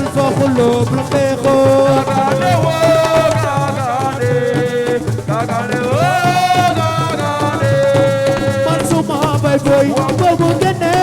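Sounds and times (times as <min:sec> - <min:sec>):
hand drums and percussion: 0:00.0 - 0:11.0.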